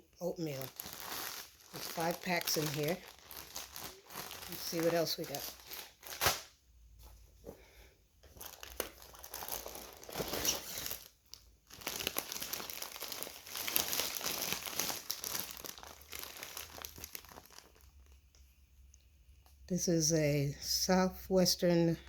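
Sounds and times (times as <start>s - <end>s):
food packets rustling: 0.3s - 18.5s.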